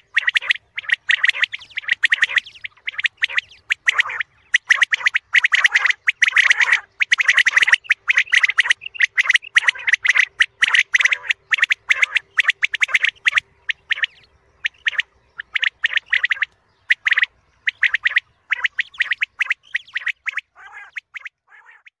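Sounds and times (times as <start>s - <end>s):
quail calling: 0.0s - 22.0s.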